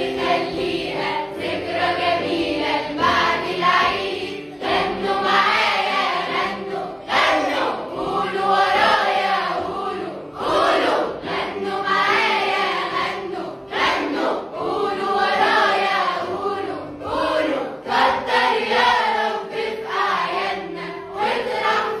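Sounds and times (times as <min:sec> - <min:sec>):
choir singing: 0:00.0 - 0:22.0
instrumental backing music: 0:00.0 - 0:22.0.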